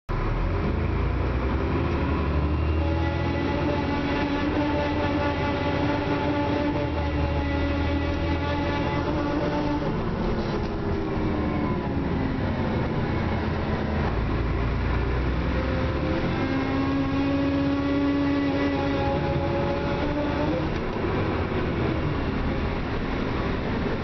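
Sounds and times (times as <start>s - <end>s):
bus drivetrain whine: 0.1s - 24.0s
bus engine low rumble: 0.1s - 24.0s.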